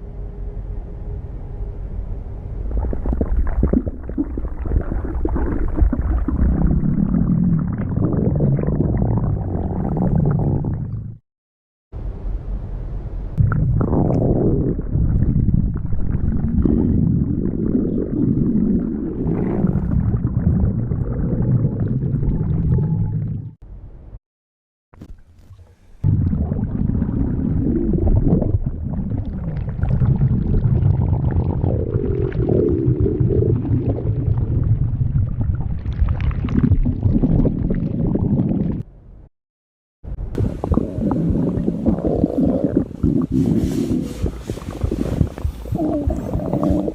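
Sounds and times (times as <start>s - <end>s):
stomach growling: 2.7s - 11.2s, 13.4s - 23.6s, 26.0s - 38.8s, 40.3s - 46.9s.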